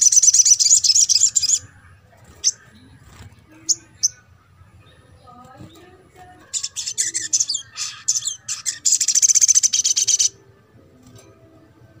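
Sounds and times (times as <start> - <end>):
bird chirping and trilling: 0.0 - 10.5.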